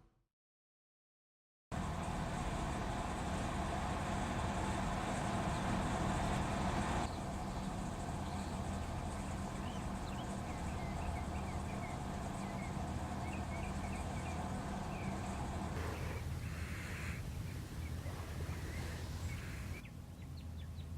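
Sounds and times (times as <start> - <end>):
distant road traffic rumble: 1.8 - 20.9.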